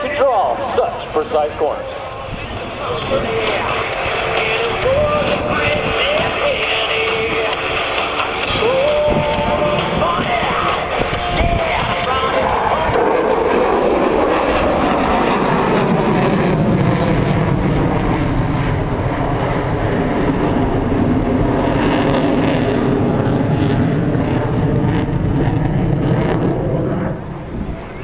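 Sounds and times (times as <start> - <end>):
fighter jet engine roaring: 0.0 - 28.0.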